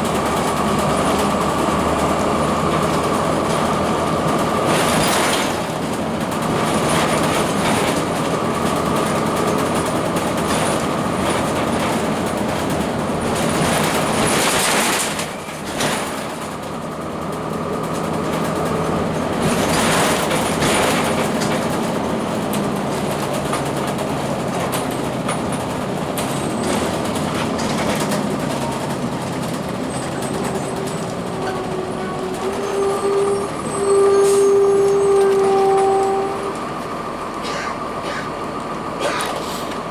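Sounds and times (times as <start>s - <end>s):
bus diesel engine running: 0.0s - 39.9s
road noise and rattling: 0.0s - 39.9s.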